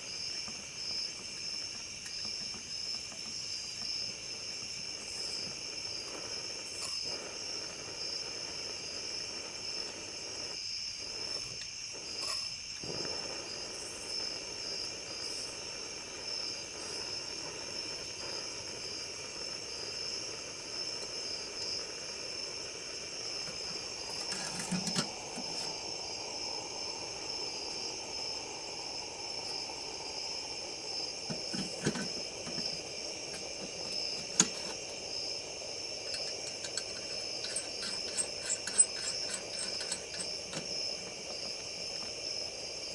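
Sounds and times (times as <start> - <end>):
crickets chirring: 0.0 - 42.9.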